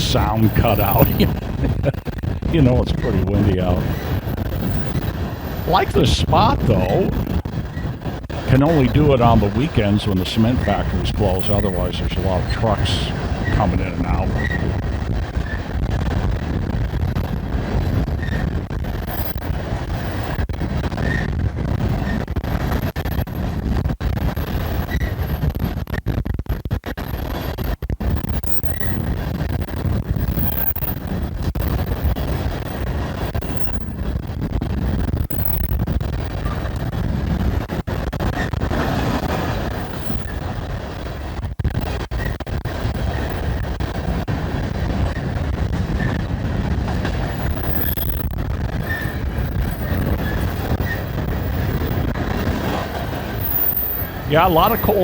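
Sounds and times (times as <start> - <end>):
strong wind buffeting microphone: 0.0 - 26.5, 28.0 - 55.0.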